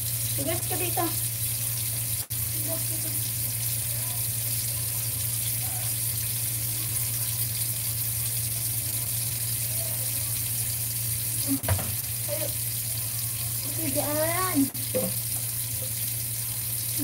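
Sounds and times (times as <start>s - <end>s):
water running from a tap: 0.0s - 17.0s.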